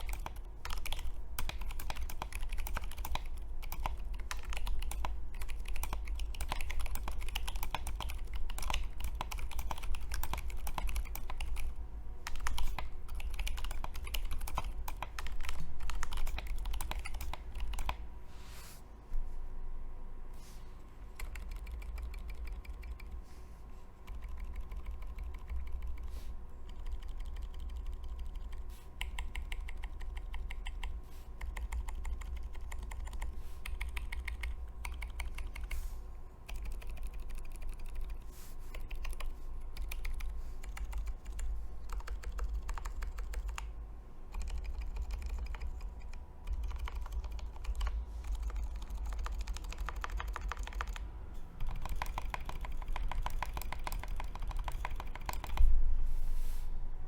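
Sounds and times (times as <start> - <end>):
typing on mechanical keyboard: 0.0 - 18.0, 21.2 - 23.1, 24.0 - 26.1, 26.7 - 35.8, 36.5 - 43.7, 44.3 - 51.0, 51.6 - 55.7
low room hum: 0.0 - 57.0.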